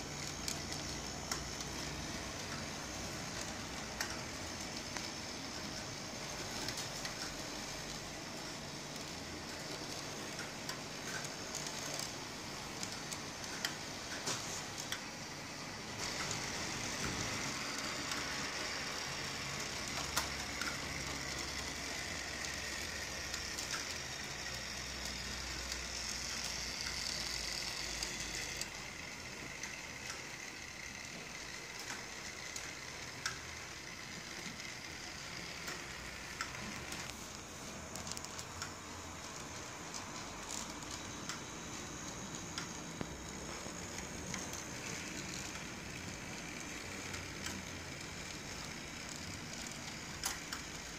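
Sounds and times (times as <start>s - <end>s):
crackly hiss of wheels on track: 0.0s - 50.9s
small electric motors whining: 0.0s - 50.9s.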